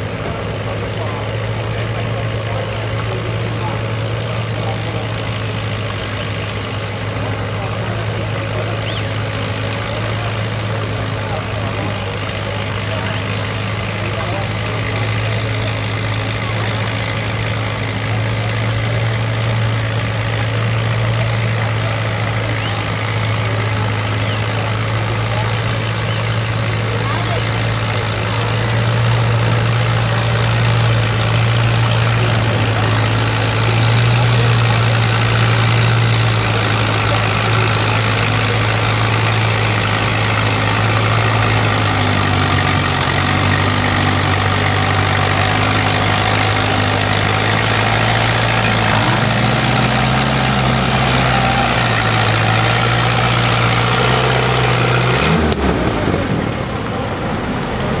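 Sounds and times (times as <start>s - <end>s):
tractor engine under load: 0.0s - 58.0s.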